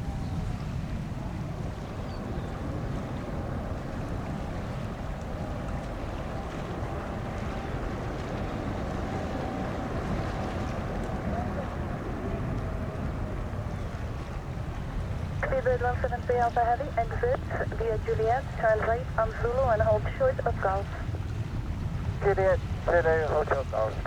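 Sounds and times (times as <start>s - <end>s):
faint engine whine: 0.0s - 24.0s
jet engines rumbling: 0.0s - 24.0s
wind buffeting microphone: 0.0s - 24.0s.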